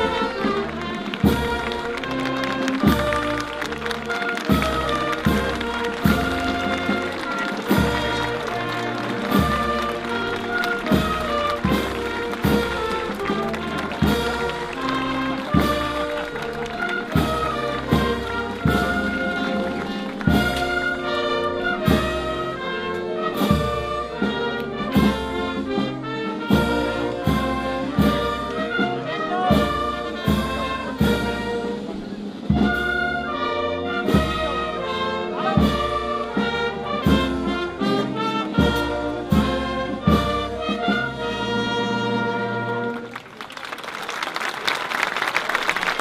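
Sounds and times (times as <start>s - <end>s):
brass band music: 0.0s - 46.0s.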